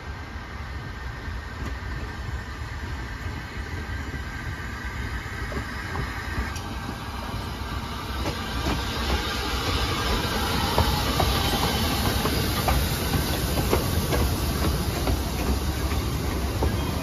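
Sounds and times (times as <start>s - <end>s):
steam locomotive and coaches running: 0.0s - 17.0s.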